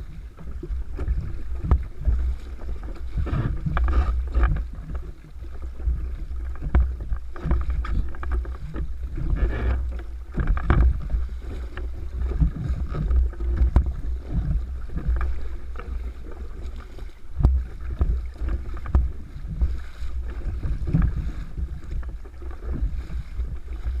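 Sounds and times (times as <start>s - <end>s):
water lapping against hull: 0.0s - 24.0s
wind noise on microphone: 0.0s - 24.0s.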